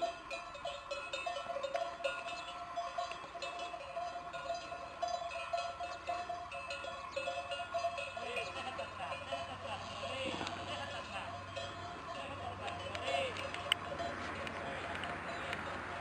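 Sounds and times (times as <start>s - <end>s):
metal livestock bells clanking: 0.0s - 16.0s.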